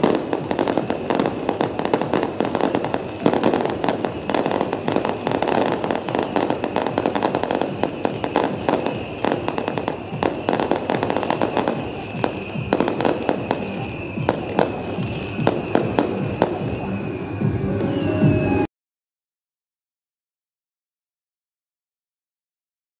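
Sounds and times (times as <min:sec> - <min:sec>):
high whistle: 0:00.0 - 0:18.7.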